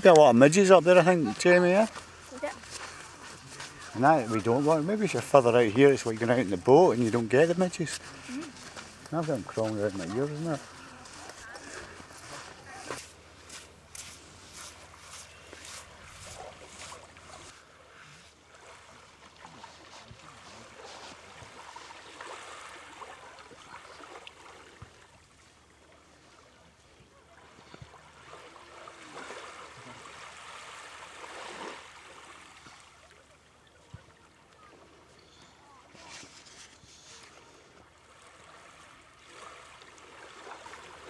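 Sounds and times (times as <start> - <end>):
small waves washing onto sand: 0.0 - 35.1, 35.8 - 41.0.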